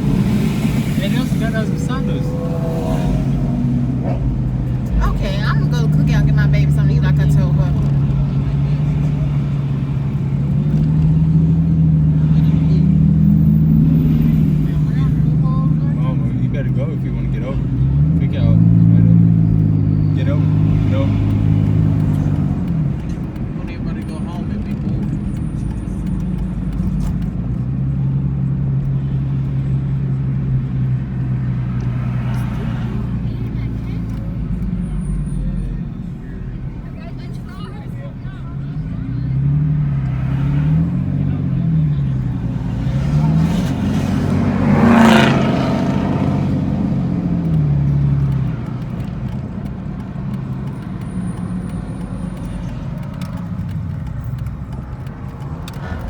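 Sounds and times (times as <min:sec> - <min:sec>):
car engine humming inside car: 0:00.0 - 0:56.0
road rumble: 0:00.0 - 0:56.0.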